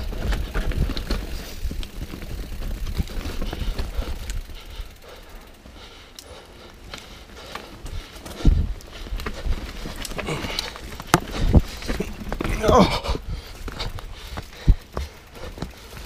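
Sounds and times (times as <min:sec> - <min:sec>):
bike clicks and rattles: 0:00.0 - 0:16.0
bike tyres rumbling on trail: 0:00.0 - 0:16.0.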